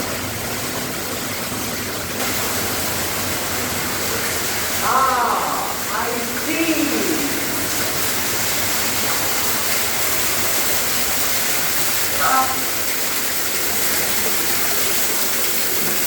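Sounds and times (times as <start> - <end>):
waterfall rushing: 2.2 - 16.0.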